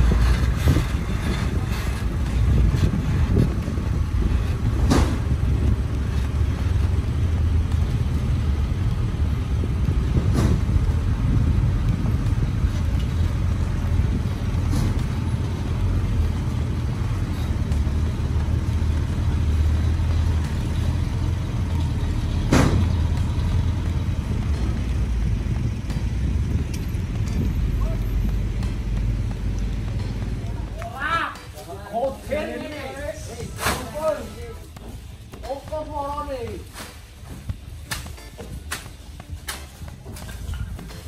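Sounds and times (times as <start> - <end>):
truck diesel engine rumbling: 0.0 - 41.0.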